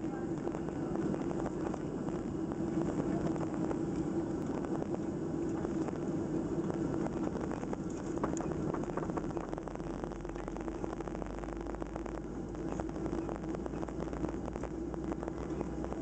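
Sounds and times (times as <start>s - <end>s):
jet engines rumbling and humming: 0.0s - 16.0s.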